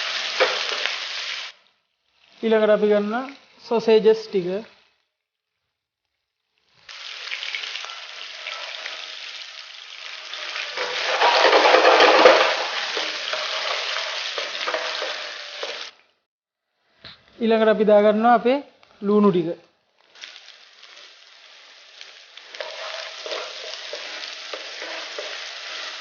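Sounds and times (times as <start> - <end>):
sausages sizzling in oil: 0.0 - 5.1, 6.3 - 16.3, 19.1 - 26.0.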